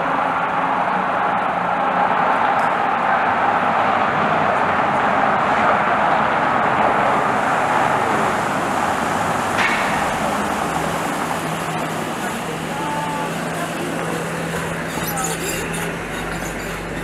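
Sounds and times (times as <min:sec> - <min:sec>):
car engine noise: 0:00.0 - 0:17.0
low steady engine hum: 0:00.0 - 0:17.0
tyres hissing on wet street: 0:00.0 - 0:17.0.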